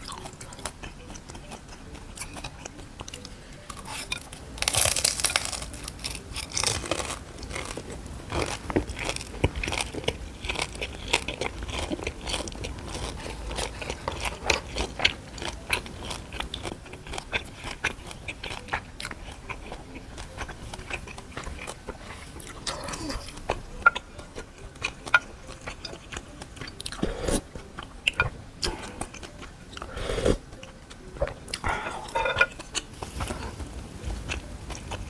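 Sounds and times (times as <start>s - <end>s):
person chewing: 0.0s - 35.0s.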